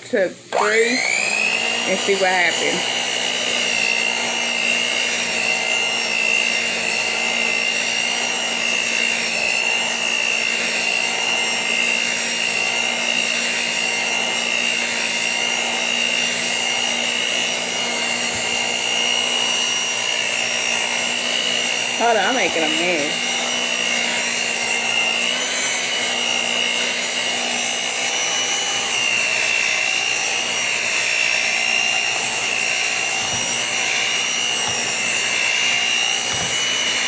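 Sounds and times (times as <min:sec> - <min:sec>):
electric mixer beating batter: 0:00.0 - 0:37.0.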